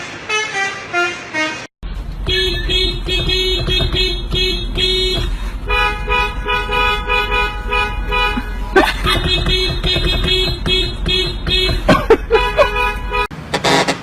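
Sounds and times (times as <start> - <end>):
novelty vehicle horn honking: 0.3 - 14.0.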